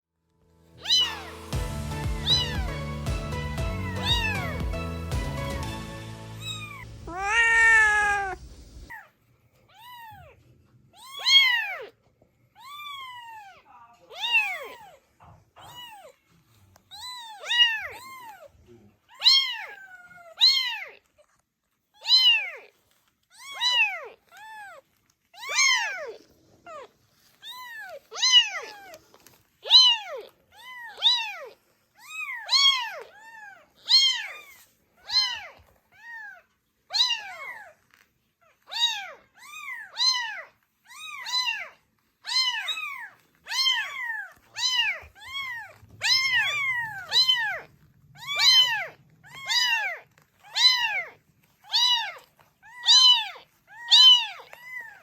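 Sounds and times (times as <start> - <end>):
kittens meowing: 0.8 - 4.8, 6.3 - 9.1, 11.0 - 12.0, 12.6 - 16.2, 16.9 - 18.5, 19.1 - 21.1, 22.0 - 22.7, 23.3 - 37.8, 38.6 - 55.0.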